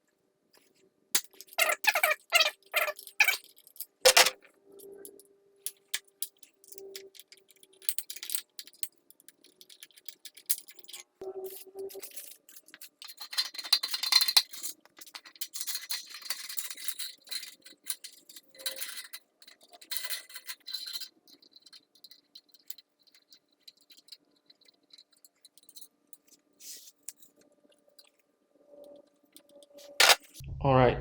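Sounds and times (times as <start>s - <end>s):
metallic clicking and scraping: 1.2s - 28.2s.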